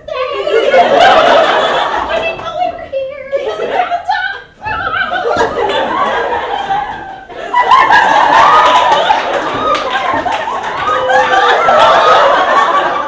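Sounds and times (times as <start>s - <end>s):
audience laughing: 0.2s - 2.4s, 3.4s - 13.0s.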